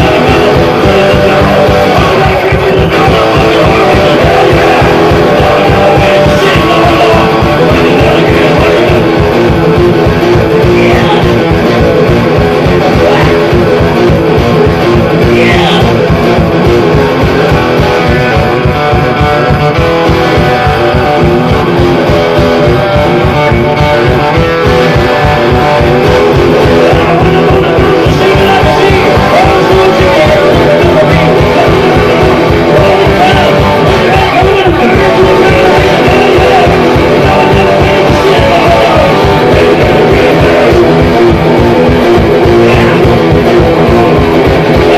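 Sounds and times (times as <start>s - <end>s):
loud electric guitar riff: 0.0s - 44.9s
steady low beat: 0.0s - 44.9s.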